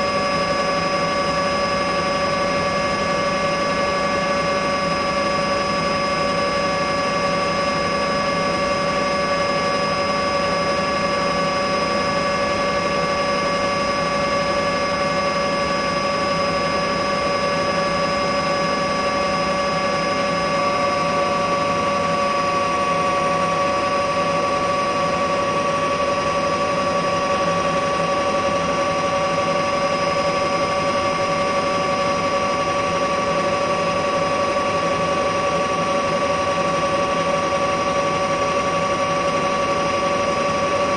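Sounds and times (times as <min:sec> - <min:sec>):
helicopter engine and rotors: 0:00.0 - 0:40.9.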